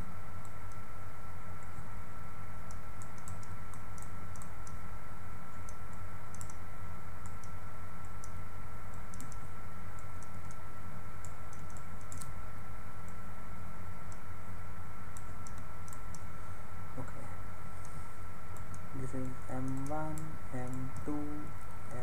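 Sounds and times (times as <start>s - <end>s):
electrical hum: 0.0s - 22.0s
faint high whine: 0.0s - 22.0s.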